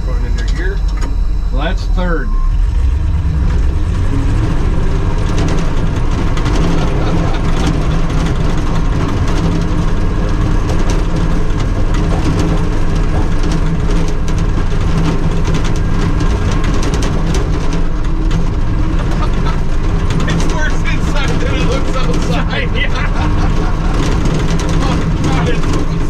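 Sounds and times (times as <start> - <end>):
snow vehicle engine under load: 0.0 - 26.0
tracks rattling and clattering: 2.8 - 26.0.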